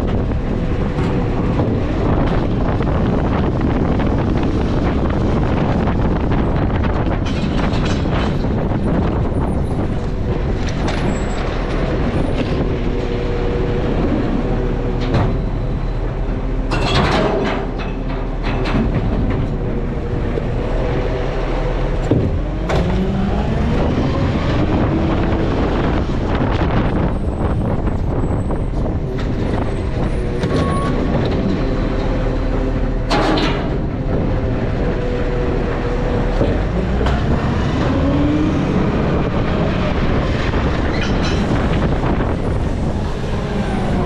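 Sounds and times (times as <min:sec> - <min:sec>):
diesel engine revving: 0:08.4 - 0:44.0.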